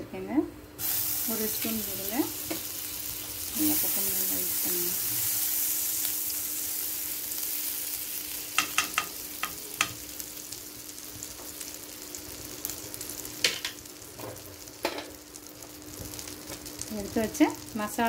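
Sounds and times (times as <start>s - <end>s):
butter sizzling in a pan: 0.8s - 18.0s.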